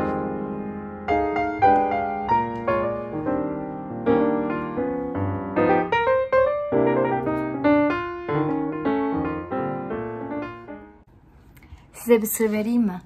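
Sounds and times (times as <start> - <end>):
gentle piano music: 0.0 - 11.1.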